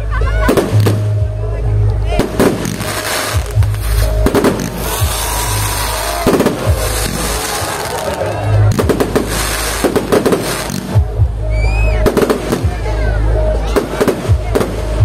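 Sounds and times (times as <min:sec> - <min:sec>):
music playing: 0:00.0 - 0:15.0
fireworks bangs and crackles: 0:00.4 - 0:01.3, 0:02.1 - 0:11.4, 0:12.0 - 0:15.0.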